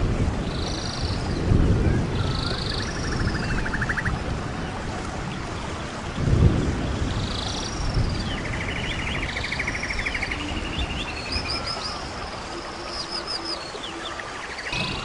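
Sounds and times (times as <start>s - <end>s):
birds singing and calling: 0.4s - 15.0s.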